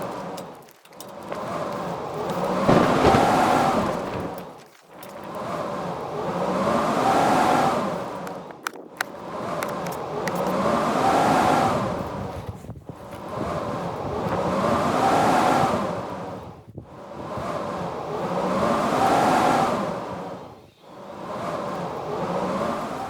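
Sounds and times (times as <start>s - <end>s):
storm wind howling in gusts: 0.0s - 23.0s.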